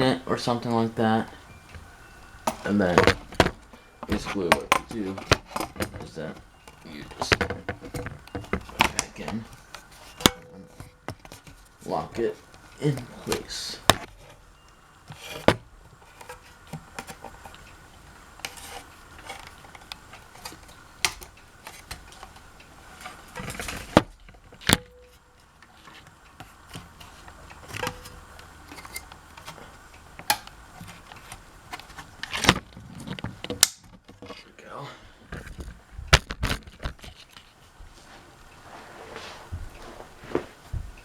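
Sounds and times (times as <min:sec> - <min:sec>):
ceiling fan parts clicking and knocking: 0:00.0 - 0:38.8, 0:39.4 - 0:41.0.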